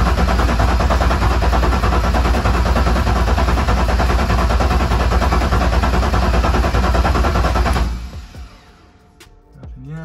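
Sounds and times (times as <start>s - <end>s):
starter motor cranking engine: 0.0s - 8.8s.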